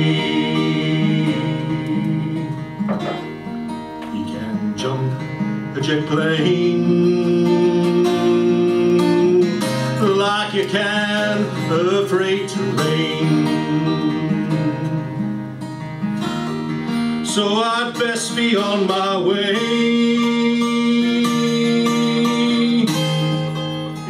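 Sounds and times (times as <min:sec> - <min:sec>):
man singing folk song: 0:00.0 - 0:03.4, 0:04.0 - 0:15.4, 0:16.9 - 0:24.0
acoustic guitar: 0:00.0 - 0:24.0.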